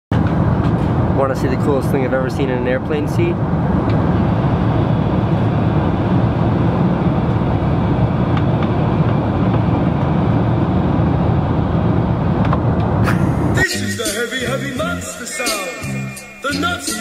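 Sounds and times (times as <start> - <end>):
airliner cabin rumble: 0.1 - 13.9.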